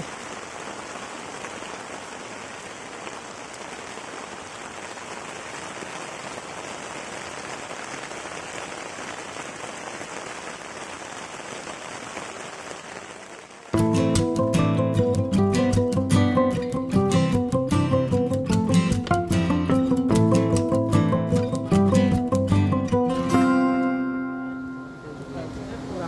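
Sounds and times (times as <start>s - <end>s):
rain falling on water: 0.0s - 23.9s.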